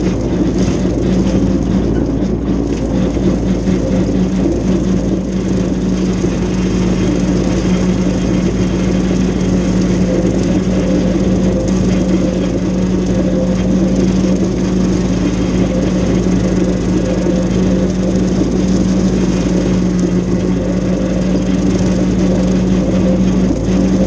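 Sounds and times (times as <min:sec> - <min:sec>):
rotary cutter mowing grass: 0:00.0 - 0:24.0
tractor diesel engine: 0:00.0 - 0:24.0.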